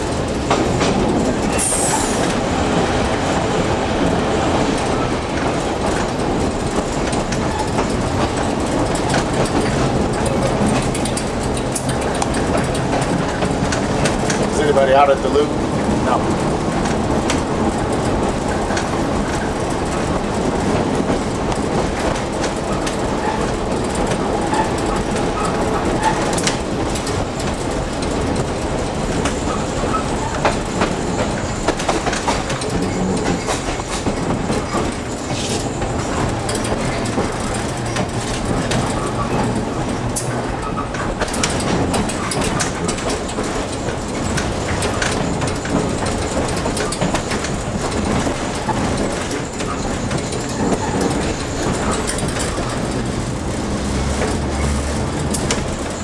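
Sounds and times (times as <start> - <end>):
streetcar wheels and motors rumbling: 0.0 - 56.0.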